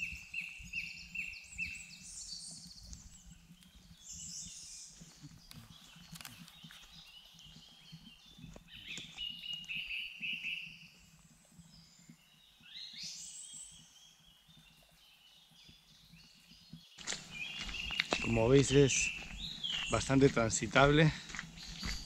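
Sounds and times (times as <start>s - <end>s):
small birds singing: 0.0s - 22.0s.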